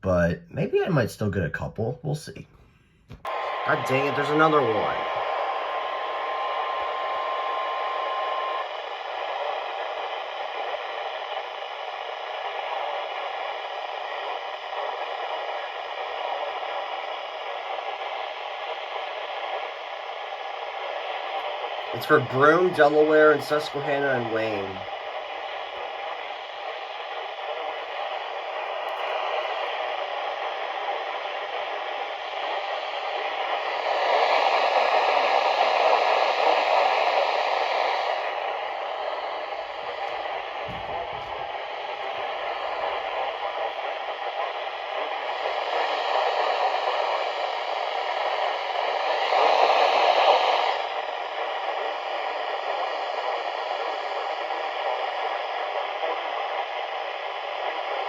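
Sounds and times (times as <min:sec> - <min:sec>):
radio static hiss: 0:03.2 - 0:58.0.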